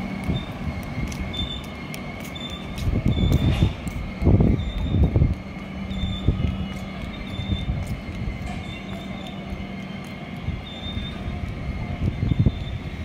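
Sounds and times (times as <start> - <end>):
high wheel squeals: 0.0 - 13.0
train wheels rumbling on rails: 0.0 - 13.0.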